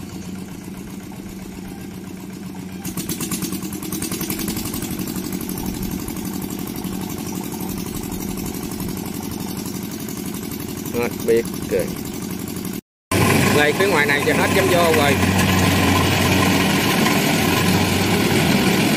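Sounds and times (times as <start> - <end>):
small harvester engine running: 0.0 - 18.9.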